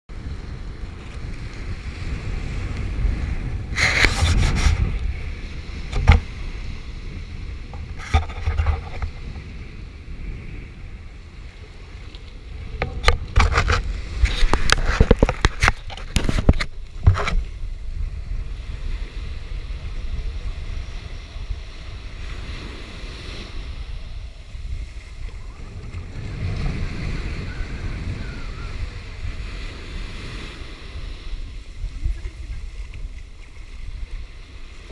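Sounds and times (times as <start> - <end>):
small waves breaking on shore: 0.1 - 34.9
wind buffeting microphone: 0.1 - 34.9.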